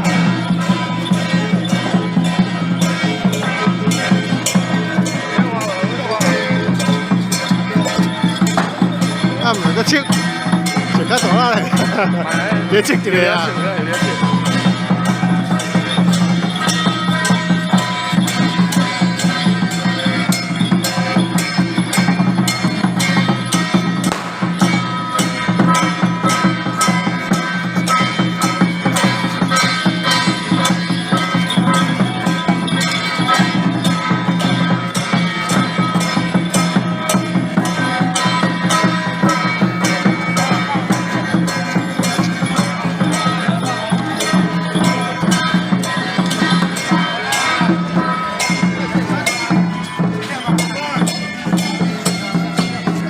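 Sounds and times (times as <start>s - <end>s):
procession percussion music: 0.0s - 53.0s.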